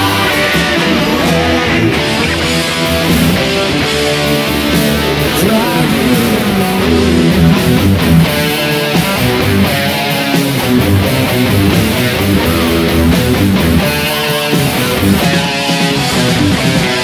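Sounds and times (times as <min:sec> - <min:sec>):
electric guitar hard rock part: 0:00.0 - 0:17.0
rock band: 0:00.0 - 0:17.0.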